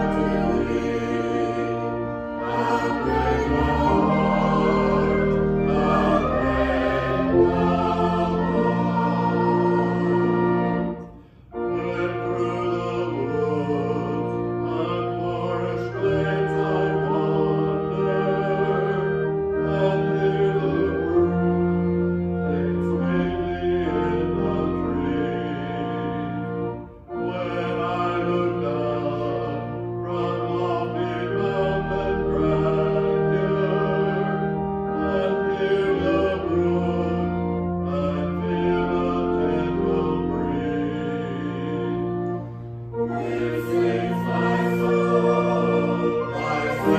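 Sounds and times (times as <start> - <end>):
choir singing a hymn: 0.0 - 46.9
instrumental accompaniment: 0.0 - 46.9.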